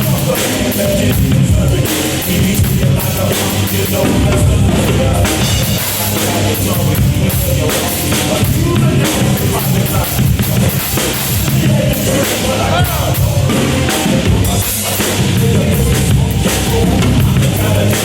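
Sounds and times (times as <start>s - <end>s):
drum kit rock groove: 0.0s - 18.0s
rock backing track: 0.0s - 18.0s.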